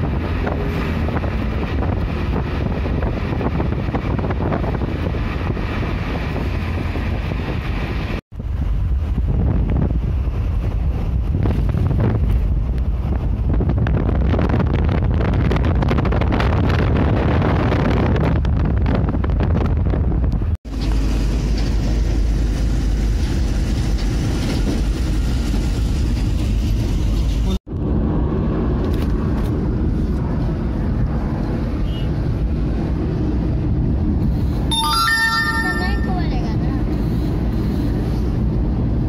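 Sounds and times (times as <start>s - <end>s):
car road and wind noise: 0.0s - 39.0s.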